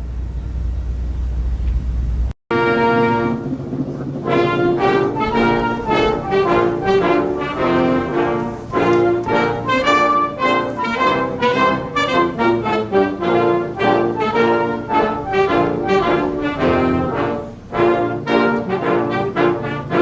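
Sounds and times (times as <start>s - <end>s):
brass band playing: 2.5s - 20.0s.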